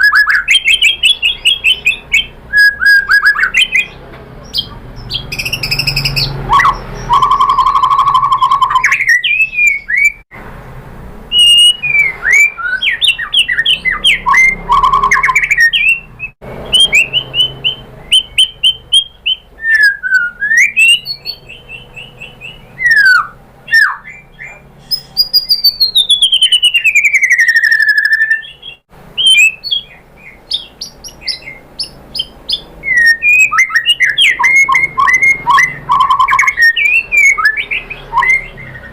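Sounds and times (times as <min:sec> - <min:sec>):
songbird singing whistles and trills: 0:00.0 - 0:10.2, 0:11.3 - 0:38.9.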